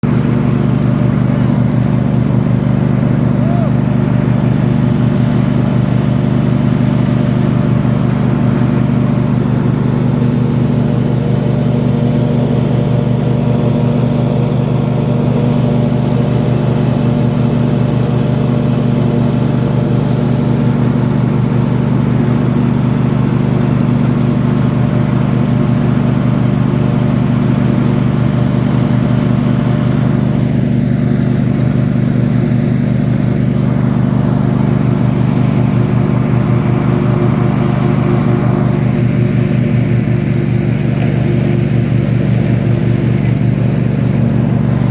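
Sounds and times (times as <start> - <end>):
small petrol engine running: 0.0 - 44.9.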